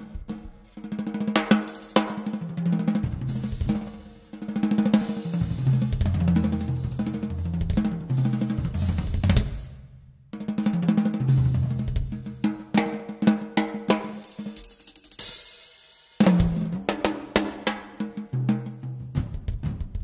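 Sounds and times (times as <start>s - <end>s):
drum kit rolls and fills: 0.0s - 20.0s.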